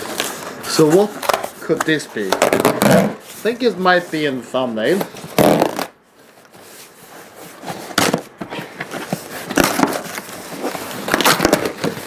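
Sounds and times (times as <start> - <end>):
parcel rustling and scraping: 0.0 - 12.0.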